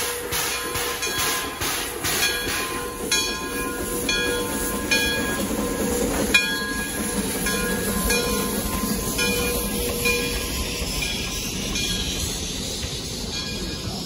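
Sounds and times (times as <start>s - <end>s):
locomotive bell ringing: 0.0s - 14.0s
steam engine rumble and hiss: 0.0s - 14.0s.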